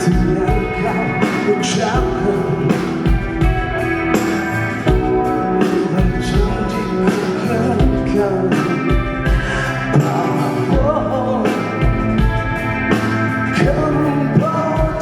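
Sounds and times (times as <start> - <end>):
band playing rock pop music: 0.0 - 15.0.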